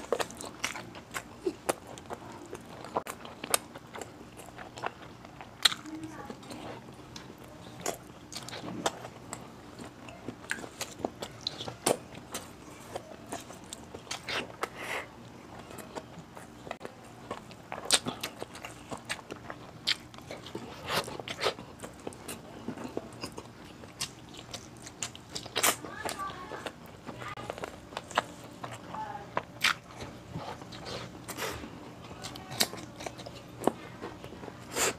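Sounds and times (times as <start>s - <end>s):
close chewing with wet mouth sounds: 0.0s - 34.9s.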